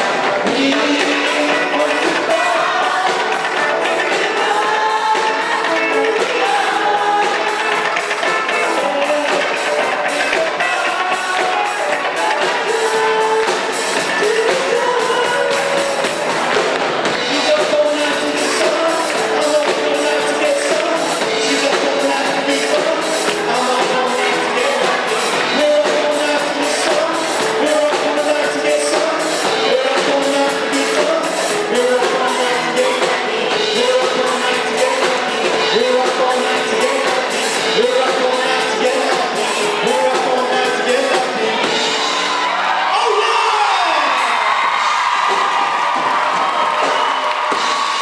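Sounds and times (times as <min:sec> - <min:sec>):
person singing: 0:00.0 - 0:42.3
drum beat: 0:00.0 - 0:42.6, 0:45.2 - 0:48.0
guitar: 0:00.0 - 0:48.0
live pop band playing: 0:00.0 - 0:48.0.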